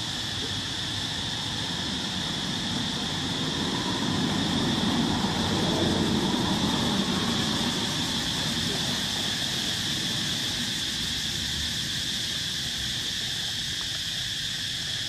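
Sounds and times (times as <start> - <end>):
broad hiss: 0.0 - 15.0
high-pitched insect drone: 0.0 - 15.0.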